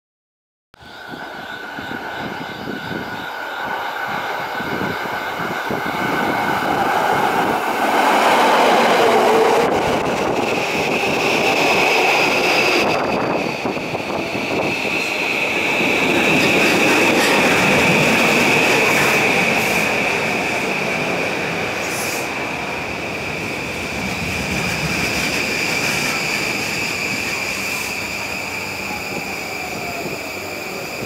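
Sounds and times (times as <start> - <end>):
electric train rumbling past: 0.8 - 31.0.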